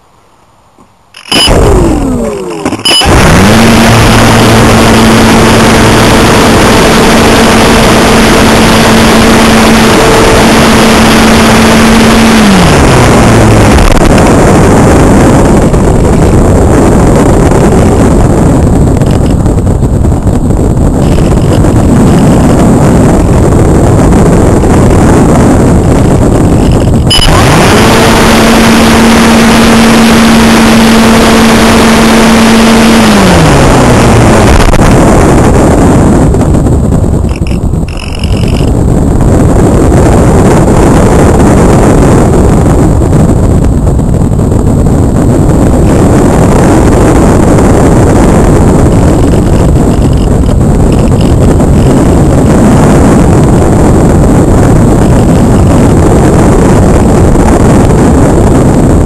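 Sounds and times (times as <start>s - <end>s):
wind rushing over microphone: 0.0s - 59.0s
electric motor humming: 1.2s - 58.7s.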